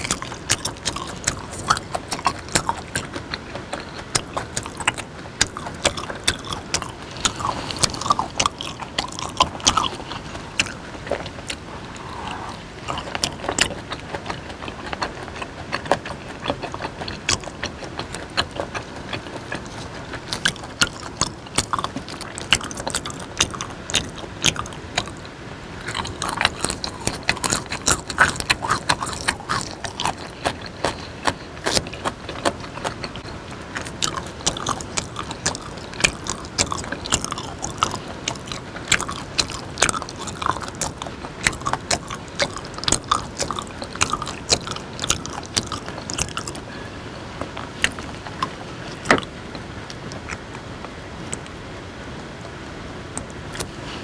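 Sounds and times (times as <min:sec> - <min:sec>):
wet mouth clicks and smacks: 0:00.0 - 0:25.3, 0:25.9 - 0:46.7, 0:47.4 - 0:49.3
chewing and biting meat: 0:00.0 - 0:46.8, 0:47.4 - 0:51.6, 0:53.2 - 0:54.0.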